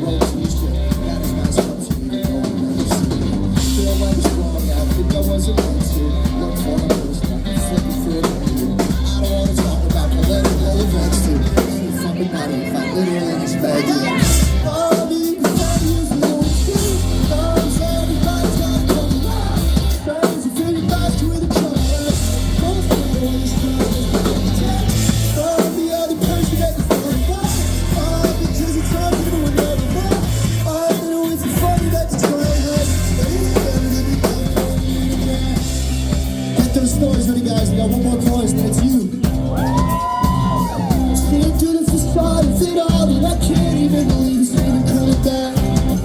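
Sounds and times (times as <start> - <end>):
drum kit beat: 0.0 - 12.8, 13.6 - 46.0
live pop-rock band playing: 0.0 - 46.0
person singing: 0.0 - 46.0.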